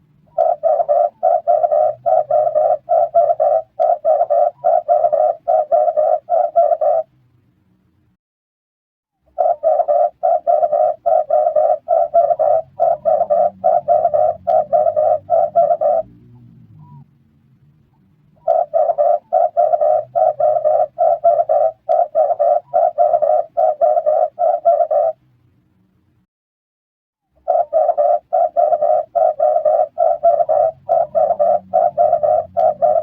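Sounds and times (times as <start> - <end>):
dove cooing: 0.0 - 7.1, 9.3 - 17.0, 18.4 - 25.2, 27.4 - 33.0.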